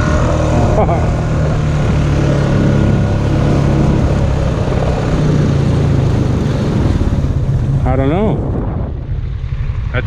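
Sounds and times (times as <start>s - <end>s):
helicopter rotor: 0.0s - 10.0s
vehicle engine idling: 0.0s - 10.0s.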